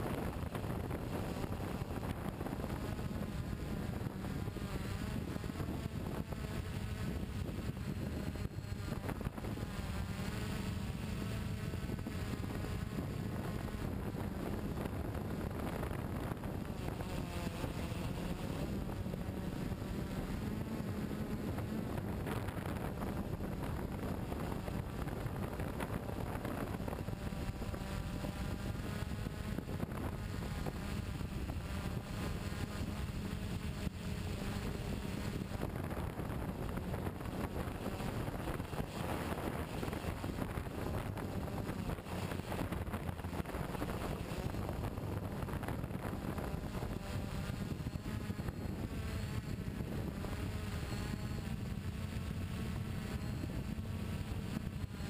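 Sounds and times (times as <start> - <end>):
drone motors droning hum: 0.0 - 55.0
wind rushing over microphone: 0.0 - 55.0.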